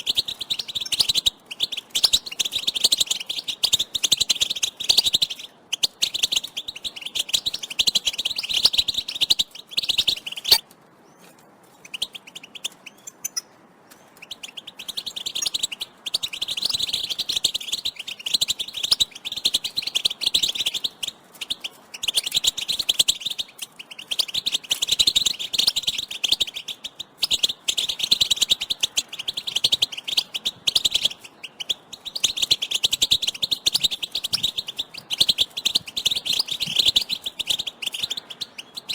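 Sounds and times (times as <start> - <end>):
finches chirping and twittering: 0.0 - 10.6, 11.8 - 38.9.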